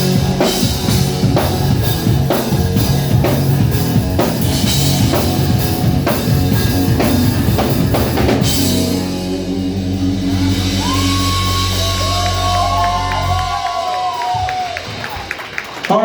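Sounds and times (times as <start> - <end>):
drum kit hitting: 0.0 - 13.6
guitars: 0.0 - 13.8.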